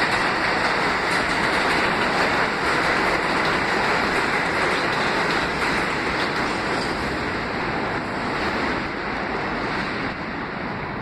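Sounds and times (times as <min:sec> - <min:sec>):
subway train wheels rumbling on rail: 0:00.0 - 0:11.0.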